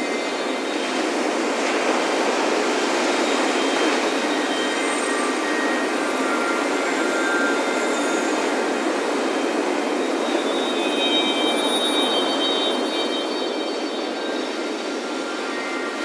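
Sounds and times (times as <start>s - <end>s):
faint wind chimes: 0.0s - 16.0s
ocean surf on beach: 0.0s - 16.0s.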